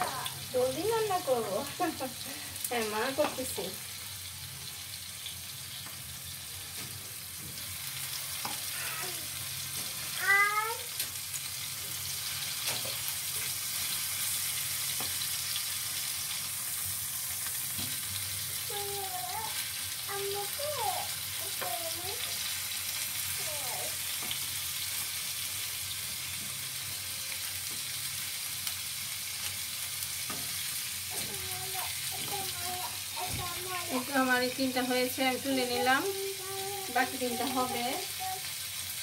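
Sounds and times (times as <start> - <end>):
skewers sizzling in oil: 0.0 - 39.0.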